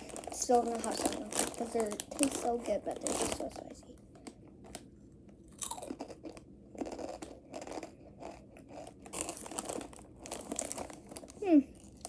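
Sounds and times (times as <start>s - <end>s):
chips crunching: 0.0s - 4.8s, 5.5s - 12.0s.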